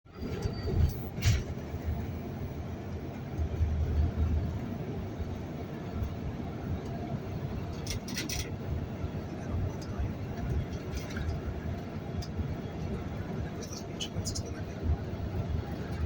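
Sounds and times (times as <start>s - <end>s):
vehicle rumbling: 0.0s - 16.0s.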